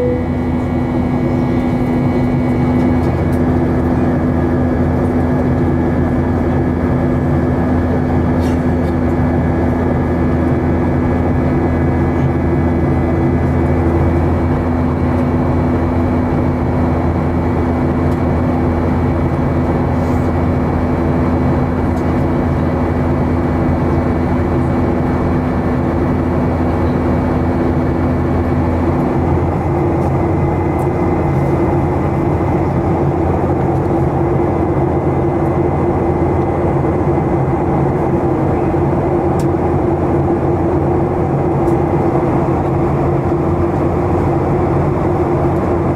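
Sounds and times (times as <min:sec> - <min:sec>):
jet engine cabin rush and hum: 0:00.0 - 0:45.9.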